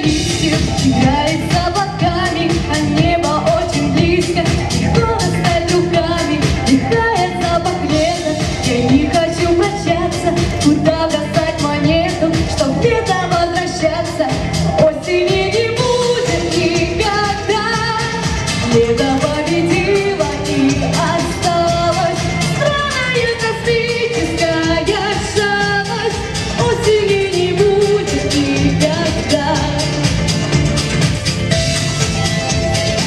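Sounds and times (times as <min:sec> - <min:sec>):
pop song with singing: 0:00.0 - 0:33.0.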